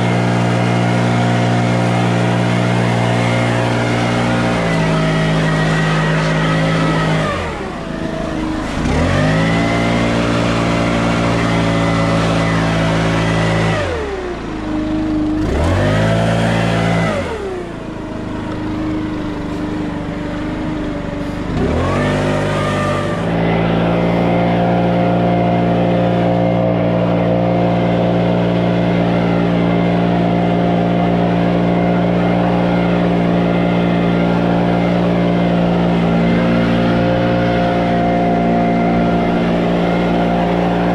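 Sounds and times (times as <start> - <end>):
engine running with pitch changes: 0.0 - 40.9.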